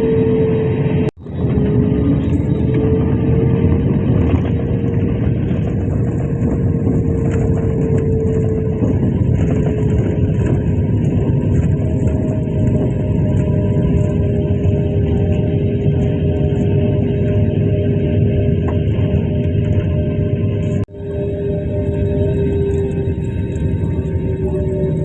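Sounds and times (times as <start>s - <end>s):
jet airliner cabin roar: 0.0s - 25.0s
jet engine whine: 0.0s - 25.0s.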